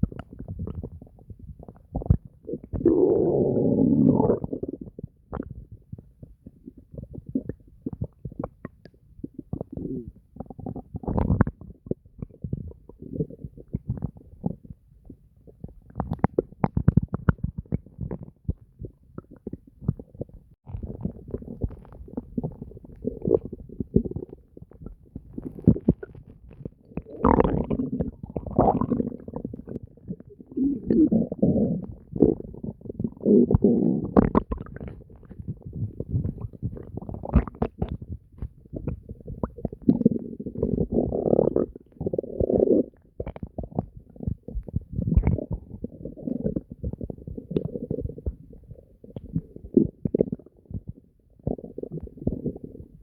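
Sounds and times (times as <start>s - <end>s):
stomach gurgling and growling: 0.0s - 53.0s.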